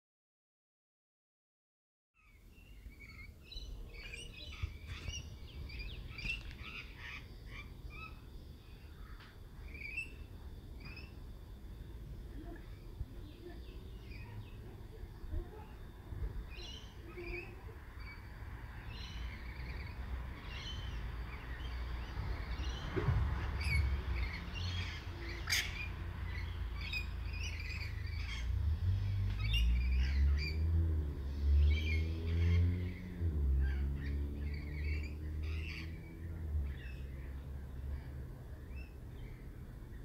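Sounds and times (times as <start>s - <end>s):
birds chirping: 2.2s - 40.0s.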